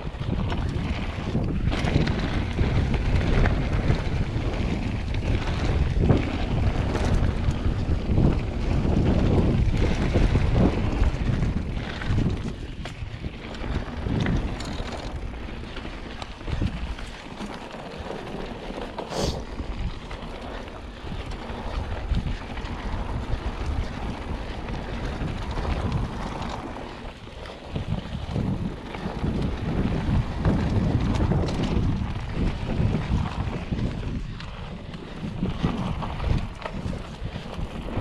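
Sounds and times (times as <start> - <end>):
wind buffeting microphone: 0.0 - 38.0
bike knocks and rattles: 0.1 - 38.0
tyres on gravel: 0.4 - 38.0.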